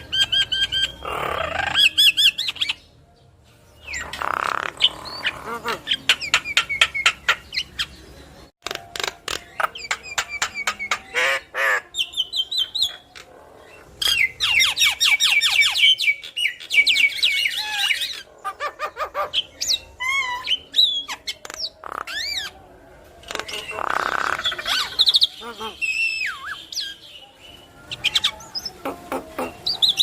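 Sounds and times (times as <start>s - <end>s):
myna bird chattering and whistling: 0.0s - 2.8s, 3.8s - 8.0s, 8.6s - 22.6s, 23.2s - 27.1s, 27.8s - 30.0s.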